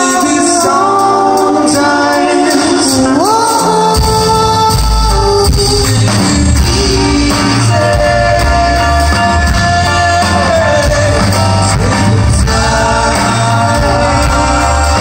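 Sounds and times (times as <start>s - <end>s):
rock band playing live: 0.0s - 15.0s
sung harmonies: 0.0s - 15.0s
heavy bass: 2.5s - 15.0s.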